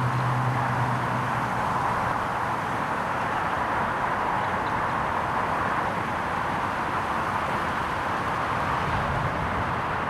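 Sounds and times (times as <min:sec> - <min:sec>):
steady outdoor background rush: 0:00.0 - 0:10.0.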